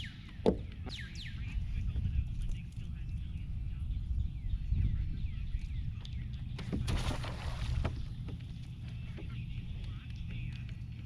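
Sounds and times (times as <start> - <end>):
low rumble: 1.2 - 11.0.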